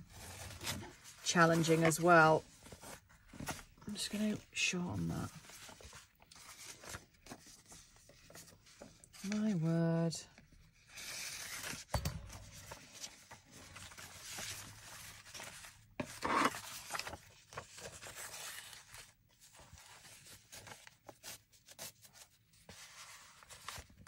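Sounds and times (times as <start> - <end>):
paper pages rustling: 0.0 - 9.7, 10.5 - 24.0.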